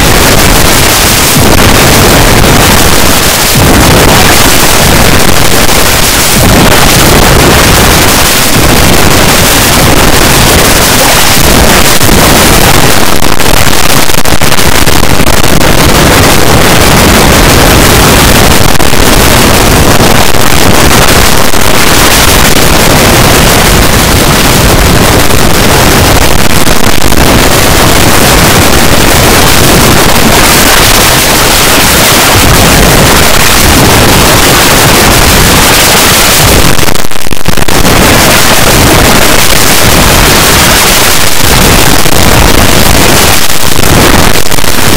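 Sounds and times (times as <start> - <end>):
harsh distorted noise: 0.0 - 44.9.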